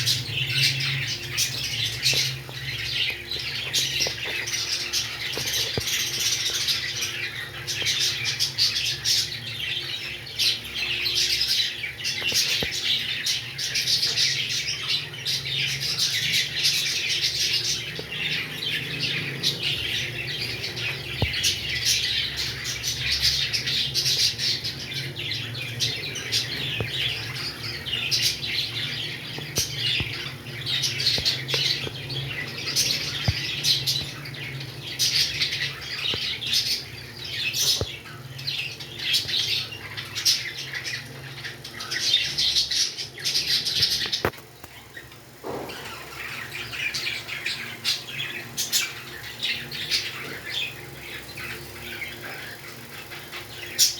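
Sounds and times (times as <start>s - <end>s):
parrots chirping and squawking: 0.0s - 53.9s.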